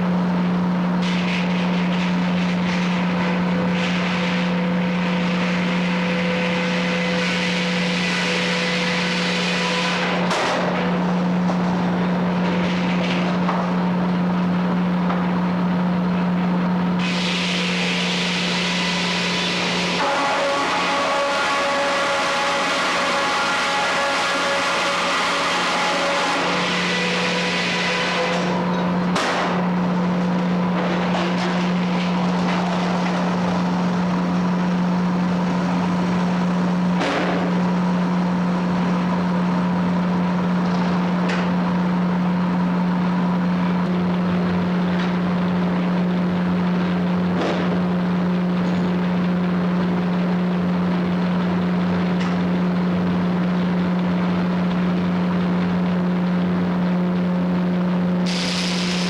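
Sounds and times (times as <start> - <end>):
sawmill low hum: 0.0 - 59.0.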